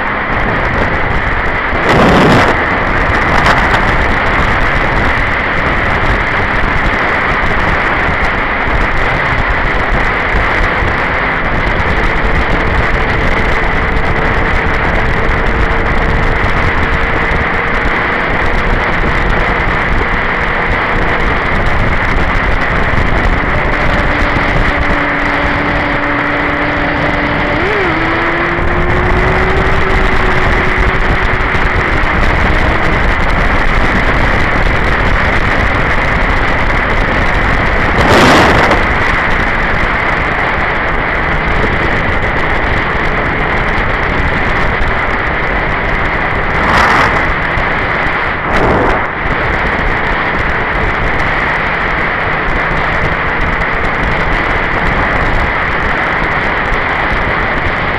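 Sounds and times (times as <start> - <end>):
faint motorcycle engine: 0.0 - 57.9
heavy wind rush on microphone: 0.0 - 57.9.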